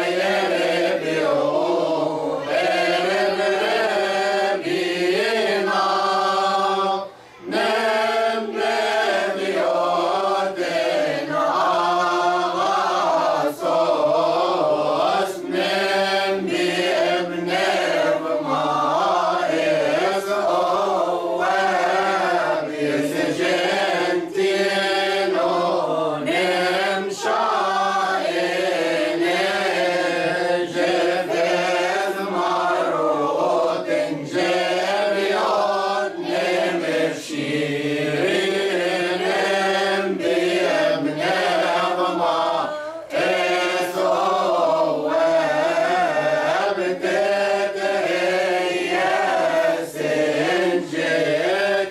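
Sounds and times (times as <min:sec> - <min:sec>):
choir chanting a hymn: 0:00.0 - 0:51.9.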